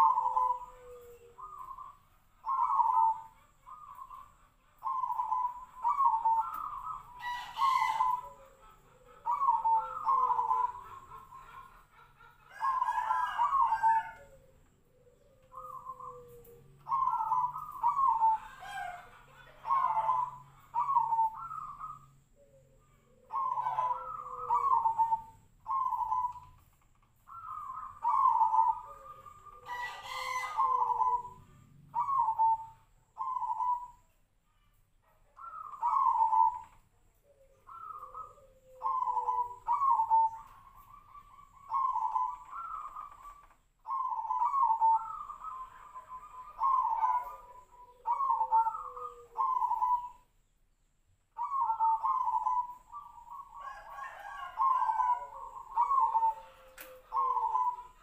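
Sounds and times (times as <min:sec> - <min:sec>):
dove cooing: 0:00.0 - 0:50.5, 0:51.3 - 0:58.0.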